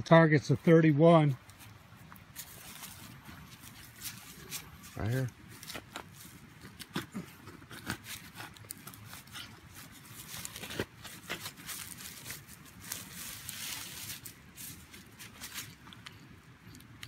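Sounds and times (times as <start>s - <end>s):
loose dirt crumbling: 0.6s - 17.0s
hand digger scraping stony soil: 1.5s - 15.9s.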